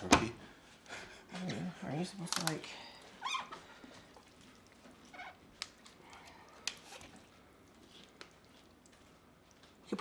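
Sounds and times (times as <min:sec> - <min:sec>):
hands squishing raw turkey skin: 0:01.4 - 0:10.0.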